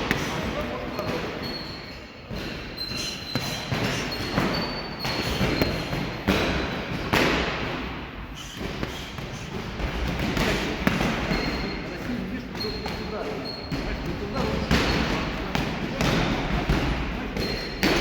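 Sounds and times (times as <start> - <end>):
boxing gloves punching thuds: 2.3 - 18.0.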